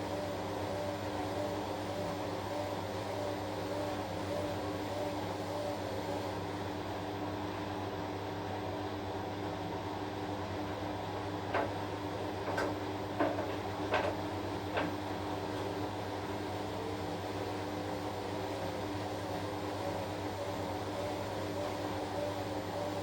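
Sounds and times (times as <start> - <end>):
washing machine humming: 0.0 - 23.0.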